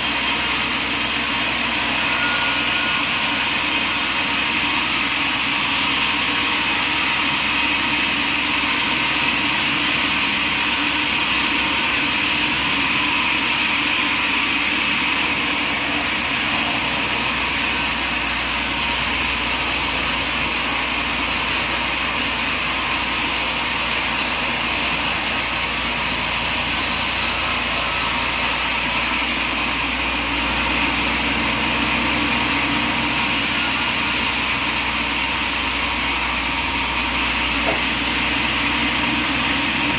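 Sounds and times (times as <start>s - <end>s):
sawmill running: 0.0s - 39.9s.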